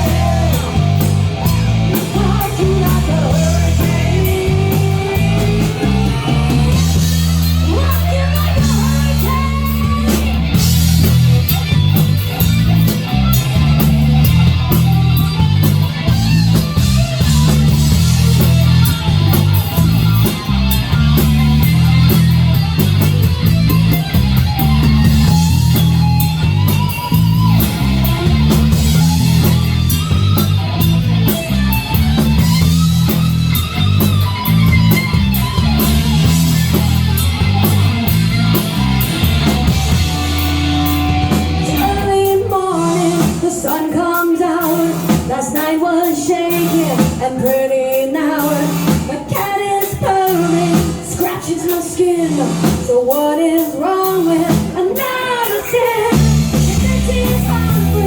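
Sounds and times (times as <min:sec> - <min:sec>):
hard rock music with singing: 0:00.0 - 0:58.0.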